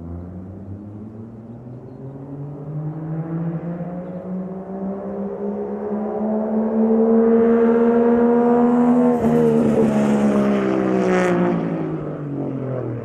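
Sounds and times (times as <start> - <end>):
car engine pulling hard: 0.0 - 13.0.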